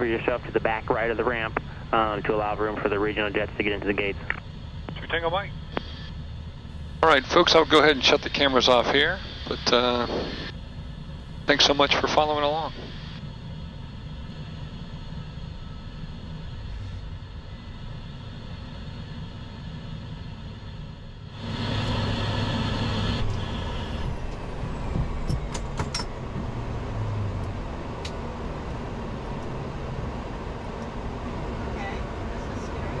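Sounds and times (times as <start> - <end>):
jet engines humming with whine: 0.0 - 33.0.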